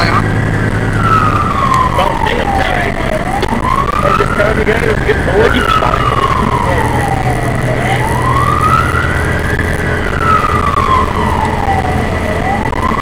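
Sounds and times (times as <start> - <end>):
fire engine wail siren: 0.0 - 13.0
truck engine drone: 0.0 - 13.0.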